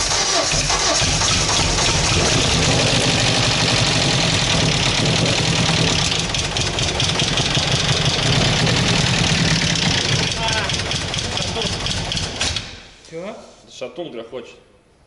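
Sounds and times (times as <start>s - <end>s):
car engine running roughly: 0.0s - 12.5s
engine knocking: 0.0s - 12.5s
engine misfiring: 0.0s - 12.8s.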